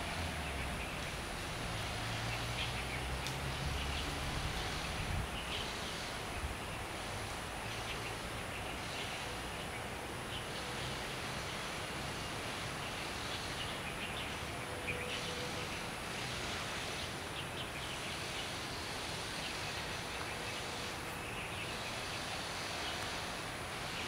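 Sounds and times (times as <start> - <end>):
outdoor ambient noise: 0.0 - 24.0.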